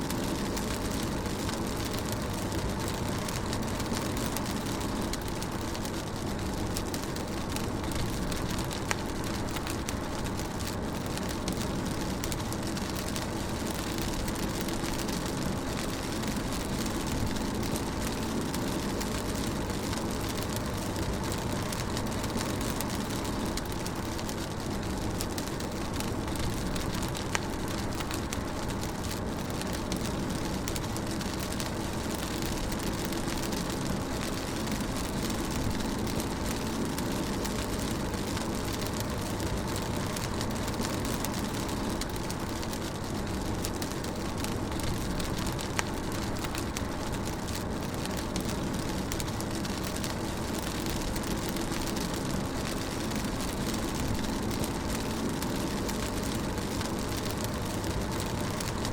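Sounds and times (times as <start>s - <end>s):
rain on moving car: 0.0s - 58.9s.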